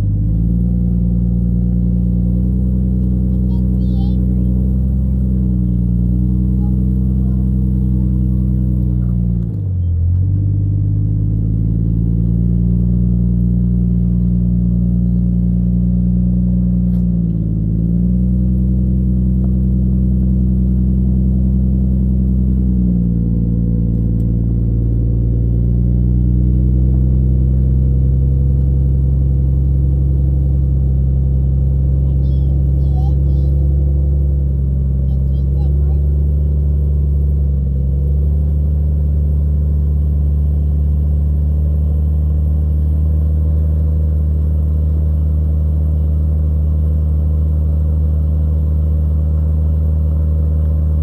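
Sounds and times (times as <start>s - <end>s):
engine running under load: 0.0s - 51.0s.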